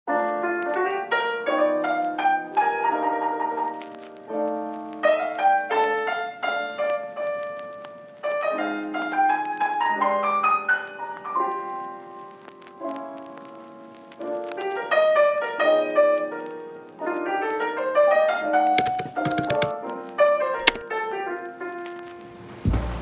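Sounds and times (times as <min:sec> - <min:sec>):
gentle piano music: 0:00.1 - 0:23.0.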